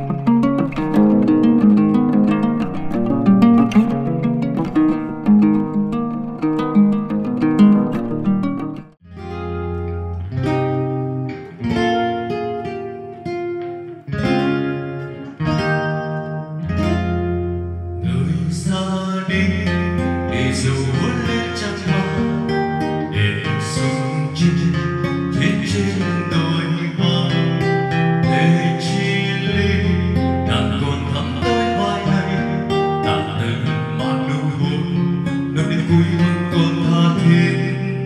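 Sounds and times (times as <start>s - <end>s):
plucked guitar music: 0.0s - 38.0s.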